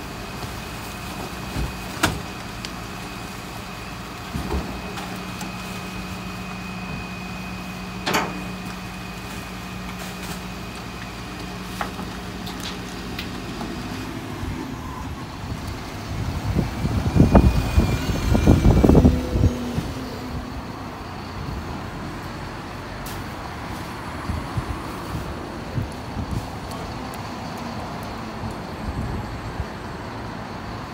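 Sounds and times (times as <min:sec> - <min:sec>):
garbage truck idling: 0:00.0 - 0:30.9
bus engine rumbling past: 0:02.4 - 0:30.9.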